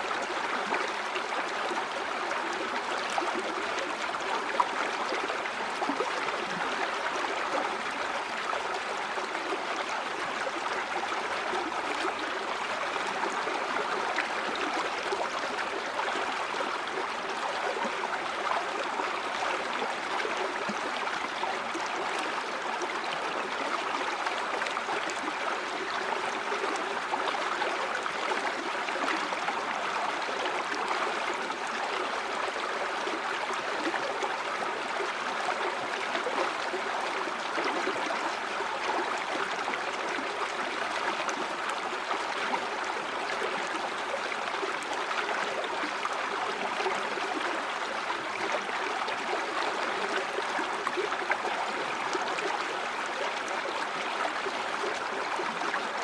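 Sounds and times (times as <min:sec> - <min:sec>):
stream flowing and gurgling: 0:00.0 - 0:56.0.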